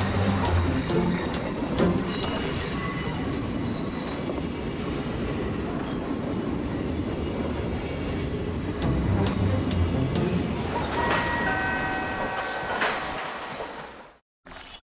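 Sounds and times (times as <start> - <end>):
diesel locomotive rumbling past: 0.0 - 13.6.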